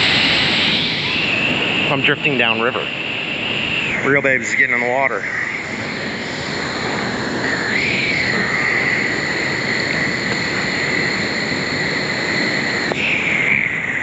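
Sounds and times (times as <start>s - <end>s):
steady high-pitched tone: 0.0s - 14.0s.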